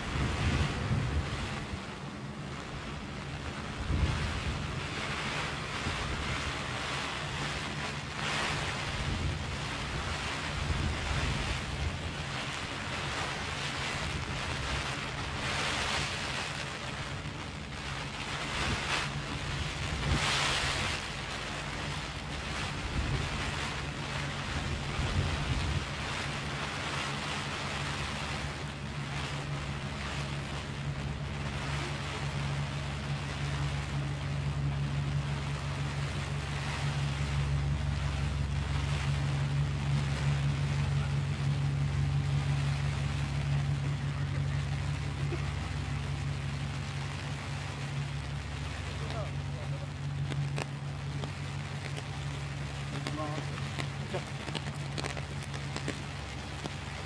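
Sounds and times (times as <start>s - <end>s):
low steady rumble: 0.0s - 57.0s
rain on plastic umbrella: 0.0s - 57.0s.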